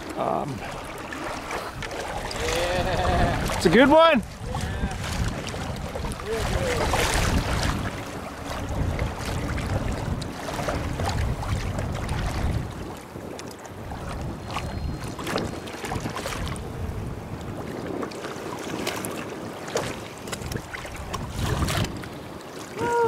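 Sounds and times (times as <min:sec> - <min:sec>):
waves lapping against boat hull: 0:00.0 - 0:23.0
wind buffeting microphone: 0:00.0 - 0:23.0.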